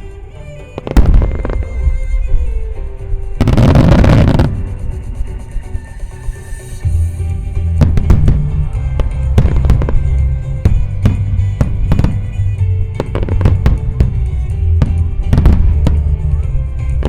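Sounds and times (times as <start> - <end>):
fireworks bursting with bangs: 0.0 - 17.0
music with heavy bass: 0.0 - 17.0.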